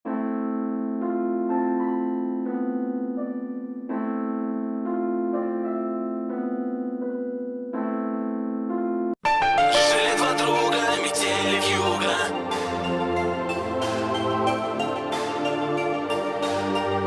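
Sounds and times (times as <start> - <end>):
electric piano chords: 0.1 - 17.0.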